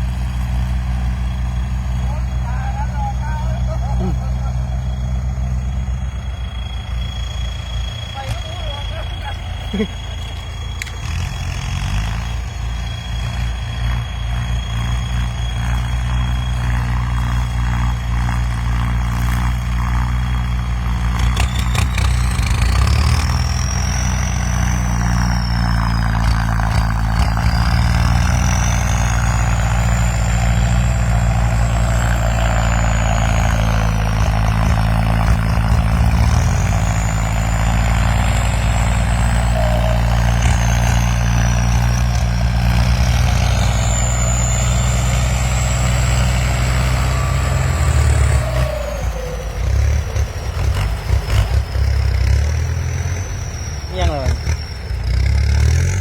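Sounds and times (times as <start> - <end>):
high whine sweeping in pitch: 0.0 - 19.1, 19.9 - 50.2
tractor diesel engine running: 0.0 - 56.0.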